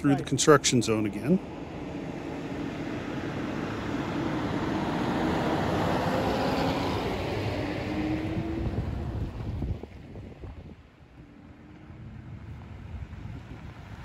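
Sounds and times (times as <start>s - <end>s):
road and engine noise: 0.0s - 14.0s.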